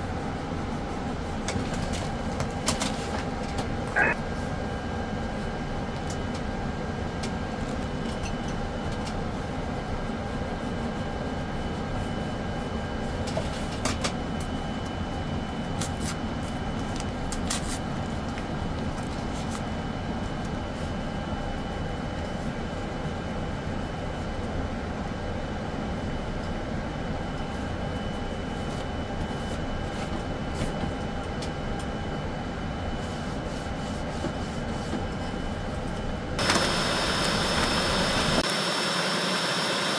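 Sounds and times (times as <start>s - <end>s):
cooling fans humming: 0.0s - 39.9s
faint constant whine: 0.0s - 39.9s.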